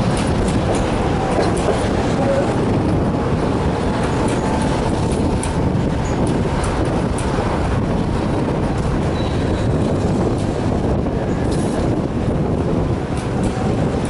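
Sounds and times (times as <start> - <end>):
tram wheels rumbling on rail: 0.0 - 14.0.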